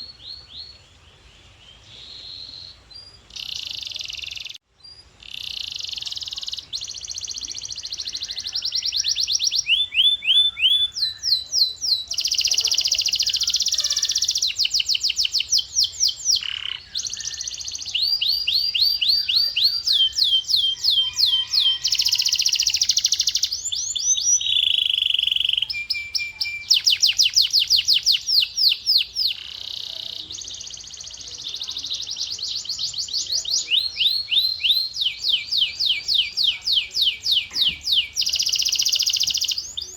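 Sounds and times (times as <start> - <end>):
canary singing: 2.0 - 39.9.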